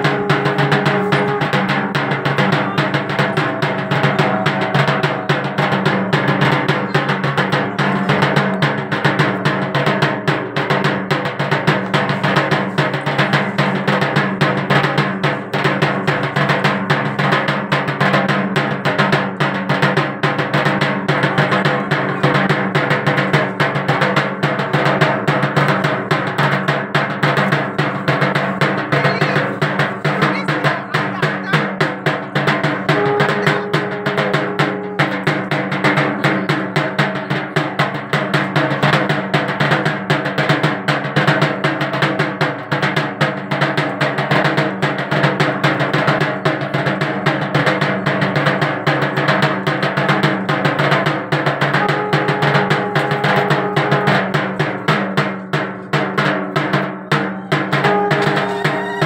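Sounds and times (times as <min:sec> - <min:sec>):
rapid drum roll: 0:00.0 - 0:59.0.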